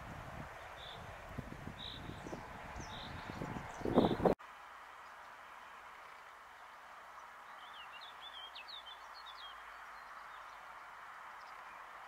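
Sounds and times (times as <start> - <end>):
steady outdoor hiss: 0.0 - 12.0
songbird chirping: 0.6 - 1.1, 1.7 - 12.0.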